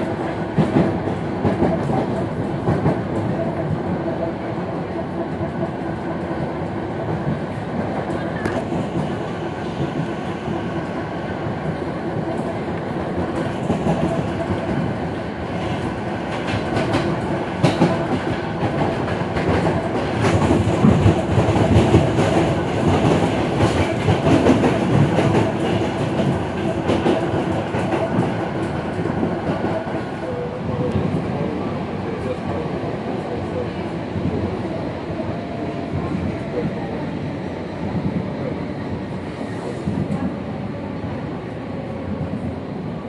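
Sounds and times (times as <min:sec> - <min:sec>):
clickety-clack of rail joints: 0:00.0 - 0:43.0
train wheels rumbling on rails: 0:00.0 - 0:43.0.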